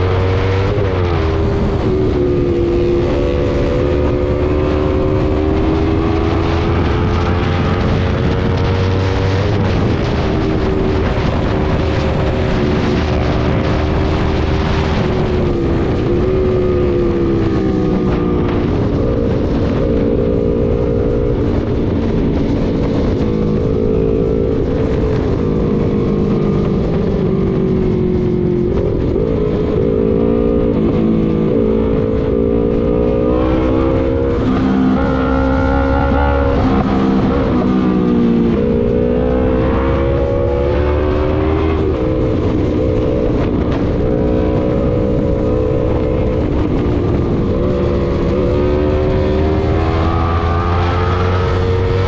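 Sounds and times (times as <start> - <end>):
motorcycle engine revving: 0.0 - 52.0
wind on microphone: 0.0 - 52.0.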